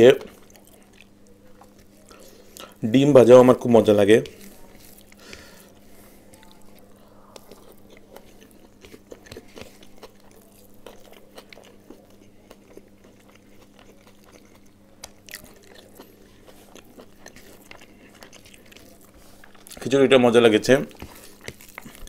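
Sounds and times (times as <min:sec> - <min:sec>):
steady low hum: 0:00.0 - 0:22.0
person chewing: 0:00.1 - 0:02.8, 0:04.2 - 0:19.9, 0:20.7 - 0:22.0.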